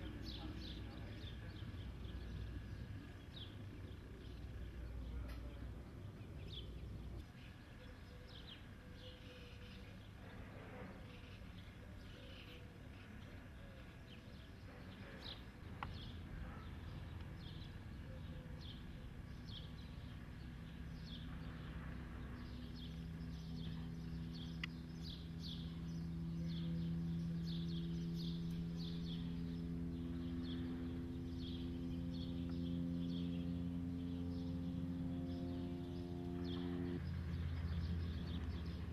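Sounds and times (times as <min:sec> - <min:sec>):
low motor hum: 0:00.0 - 0:38.9
small birds chirping: 0:00.0 - 0:38.9.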